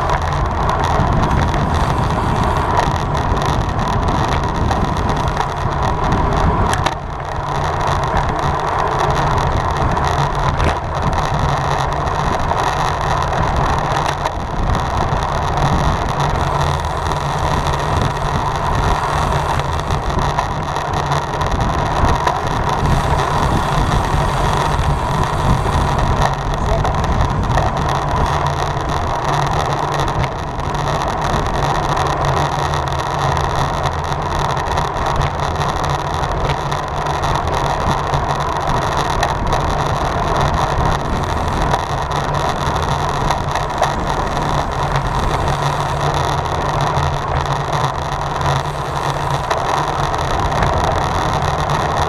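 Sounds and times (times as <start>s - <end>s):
bike tyres on road: 0.0s - 52.0s
low rumble: 0.0s - 52.0s.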